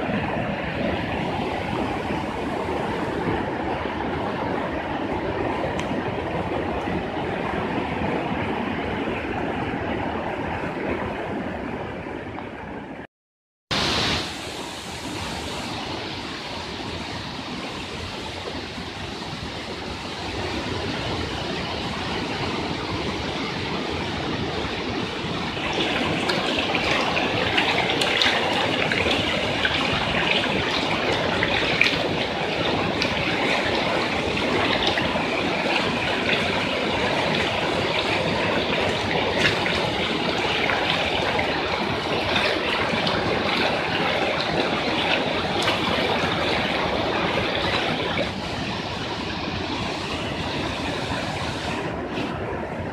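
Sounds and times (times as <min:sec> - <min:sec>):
floodwater rushing: 0:00.0 - 0:13.0, 0:13.7 - 0:52.9.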